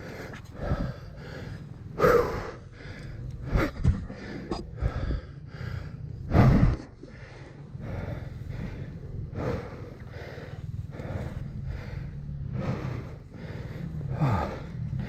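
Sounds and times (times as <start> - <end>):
low rumble: 0.0 - 15.0
man breathing hard and gasping: 0.0 - 15.0.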